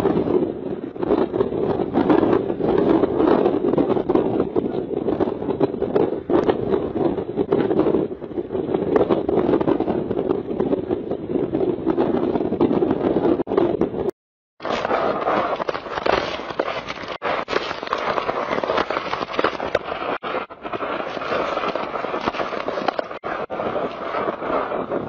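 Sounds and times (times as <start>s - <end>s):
wind roaring against microphone: 0.0s - 25.0s
wind-driven rain: 0.0s - 25.0s.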